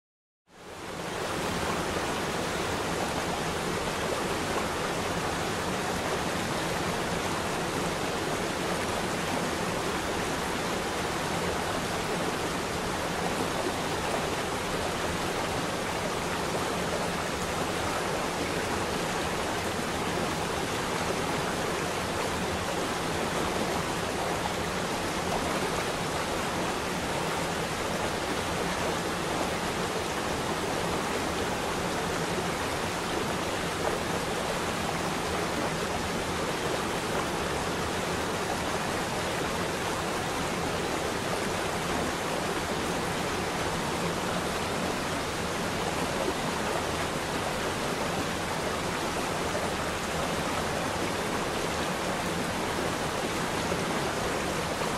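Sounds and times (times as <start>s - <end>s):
running water rushing: 0.6s - 54.9s.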